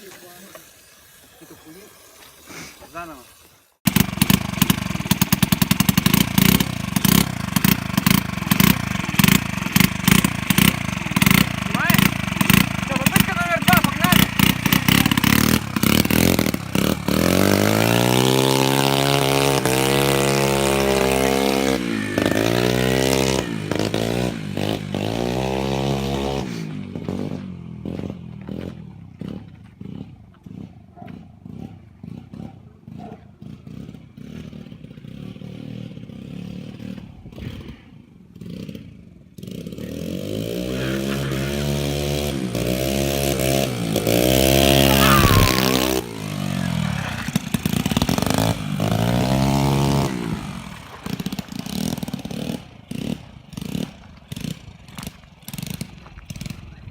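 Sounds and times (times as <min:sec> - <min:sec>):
scooter engine revving: 0:00.0 - 0:56.9.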